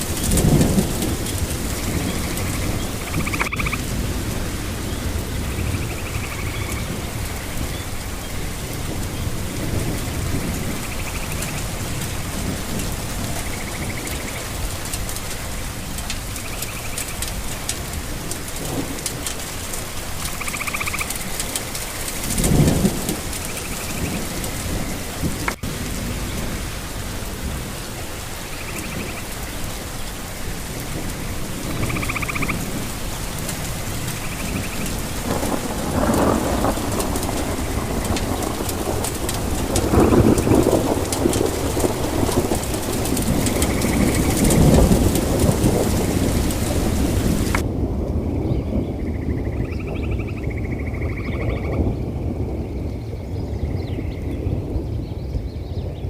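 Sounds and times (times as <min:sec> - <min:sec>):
rolling thunder: 0:00.0 - 0:56.0
steady rain: 0:00.0 - 0:56.0.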